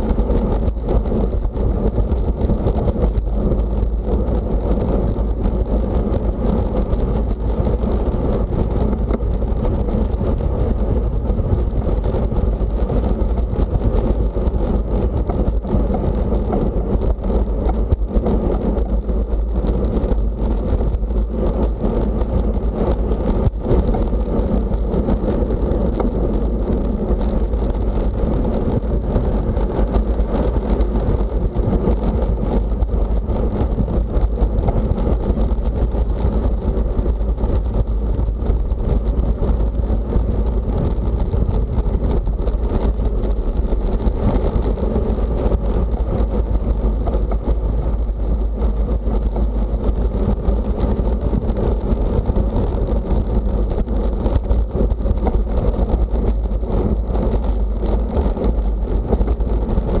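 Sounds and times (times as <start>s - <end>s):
loud wind rumble on microphone: 0.0s - 60.0s.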